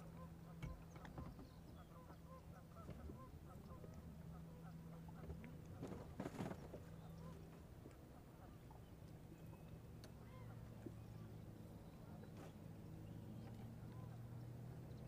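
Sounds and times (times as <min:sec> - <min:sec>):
steady low hum: 0:00.0 - 0:15.0
waterfowl calling faintly: 0:00.0 - 0:15.0.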